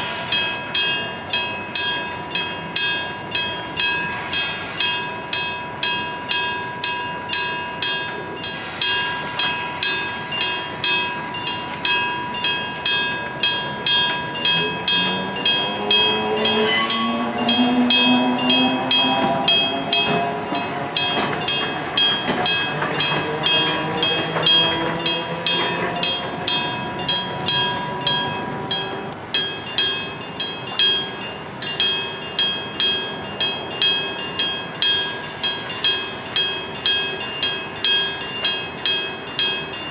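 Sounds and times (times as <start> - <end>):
train passing: 0.0 - 39.9
level crossing bell ringing: 0.4 - 39.9.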